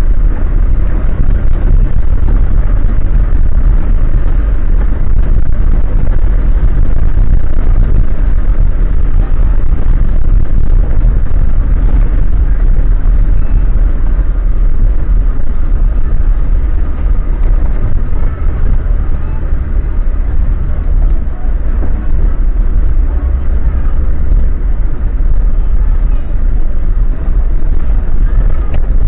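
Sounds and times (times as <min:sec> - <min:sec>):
vehicle rumble inside cab: 0:00.0 - 0:29.0.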